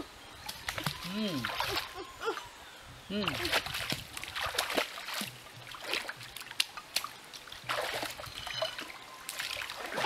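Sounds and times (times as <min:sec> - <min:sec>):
stream trickling: 0:00.0 - 0:10.0
water splashing in stream: 0:00.4 - 0:02.0, 0:03.1 - 0:10.0.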